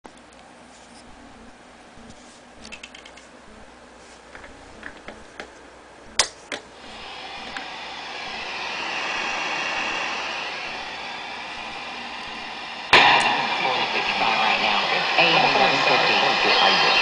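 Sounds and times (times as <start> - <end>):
radio interference hiss through amp: 0.6 - 17.0.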